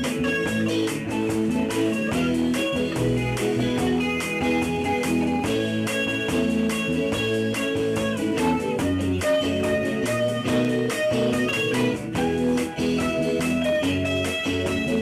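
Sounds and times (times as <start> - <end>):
band playing live: 0.0 - 15.0
electric guitar: 0.0 - 15.0.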